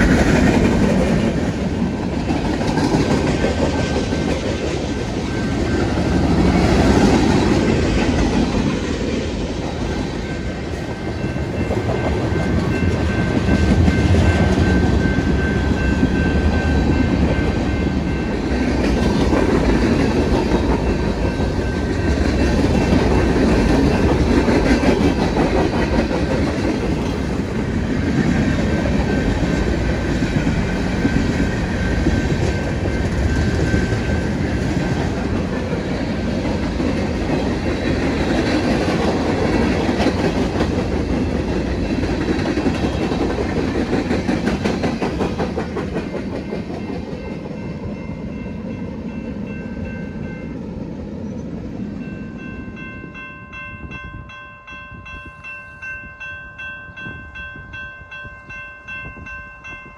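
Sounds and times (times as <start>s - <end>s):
freight train wheels clacking: 0.0s - 54.2s
train rumble: 0.0s - 59.9s.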